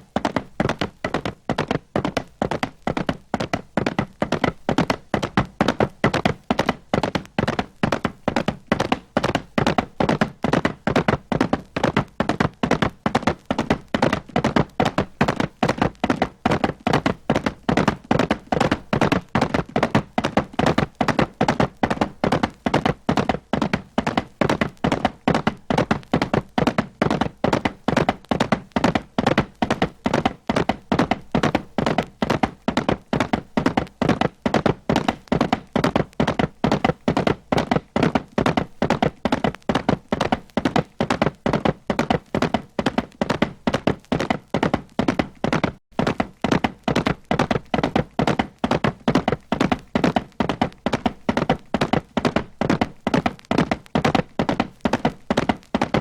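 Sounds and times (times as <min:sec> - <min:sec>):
horse hooves galloping: 0:00.0 - 0:56.0.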